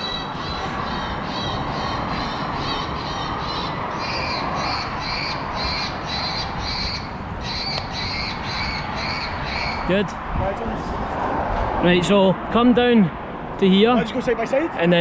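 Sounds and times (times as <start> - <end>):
wind noise on microphone: 0.0 - 12.6.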